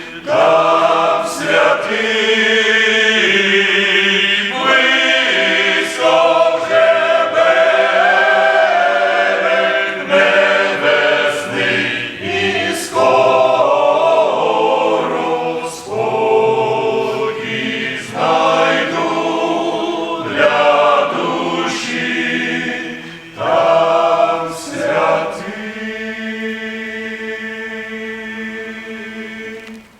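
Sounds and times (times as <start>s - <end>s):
men's choir singing a hymn: 0.0s - 29.9s.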